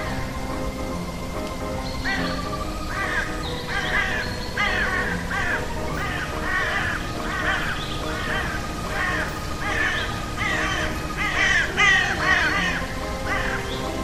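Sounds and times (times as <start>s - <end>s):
rising and falling call: 0.0s - 14.0s
steady held music tones: 0.0s - 14.0s.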